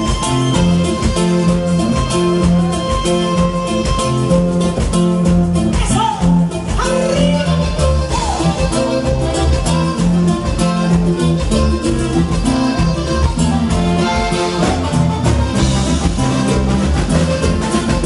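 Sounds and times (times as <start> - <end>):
instrumental dance music: 0.0 - 18.0.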